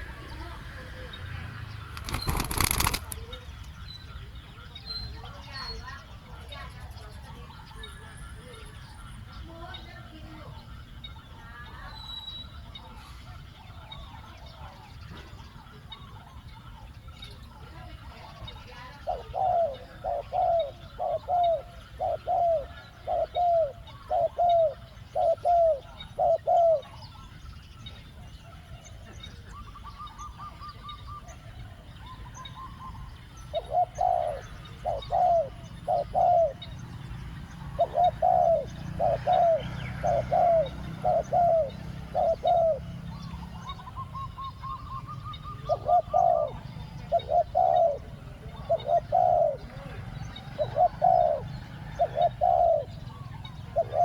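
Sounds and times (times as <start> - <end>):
dove cooing: 0.0 - 8.7, 12.8 - 27.4, 28.2 - 54.0.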